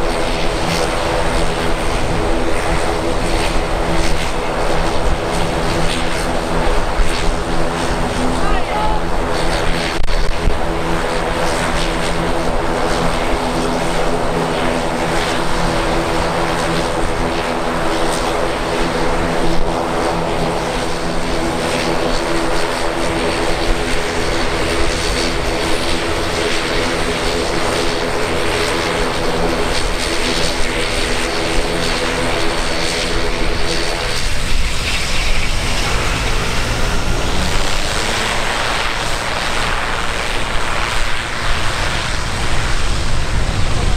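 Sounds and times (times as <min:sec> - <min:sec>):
turboprop aircraft engine hum: 0:00.0 - 0:43.9.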